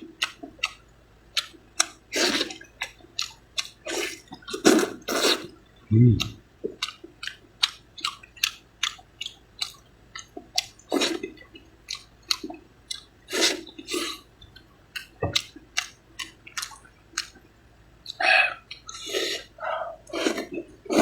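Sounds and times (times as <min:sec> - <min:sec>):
wet chewing of noodles: 0:00.0 - 0:21.0.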